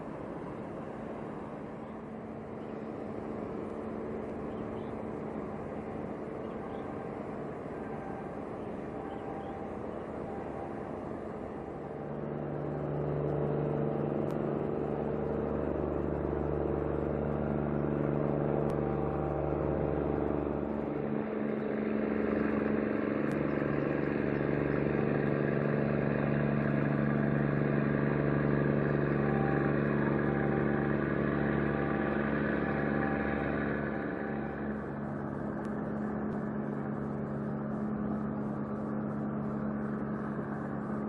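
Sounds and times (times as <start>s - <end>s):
engine droning steadily: 0.0s - 41.0s.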